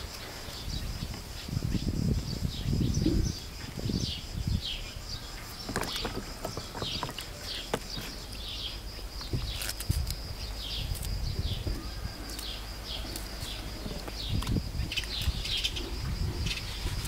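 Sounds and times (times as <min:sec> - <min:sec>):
small bird chirping: 0:00.4 - 0:17.0.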